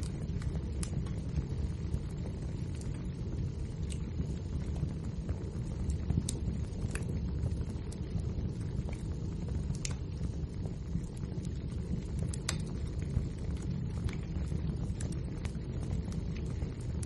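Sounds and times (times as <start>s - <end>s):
burning logs crackling and popping: 0.0s - 17.0s
wood fire rumbling: 0.0s - 17.0s.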